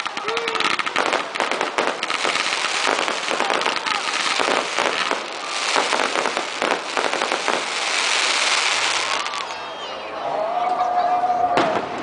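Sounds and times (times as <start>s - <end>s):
fireworks crackling: 0.0s - 9.6s.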